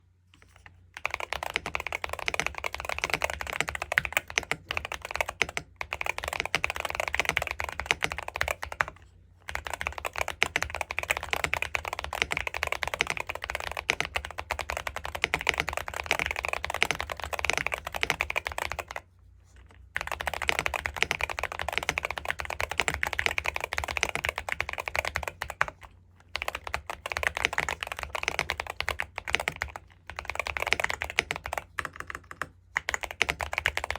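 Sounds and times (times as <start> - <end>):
fast typing on mechanical keyboard: 1.0 - 19.0, 19.9 - 33.9.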